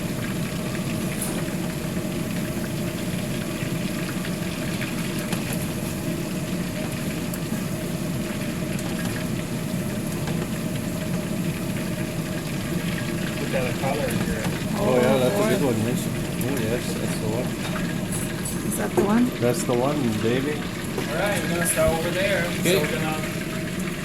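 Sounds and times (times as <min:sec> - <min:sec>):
deep-frying sizzle: 0:00.0 - 0:24.0.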